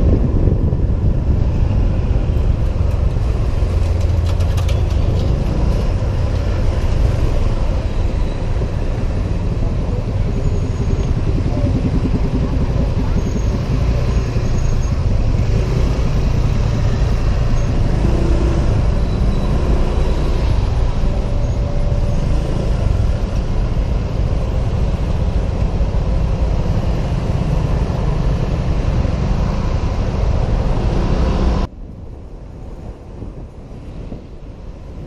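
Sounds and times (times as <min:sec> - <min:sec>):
road noise: 0:00.0 - 0:35.0
surrounding traffic: 0:00.0 - 0:35.0
wind buffeting: 0:00.0 - 0:35.0.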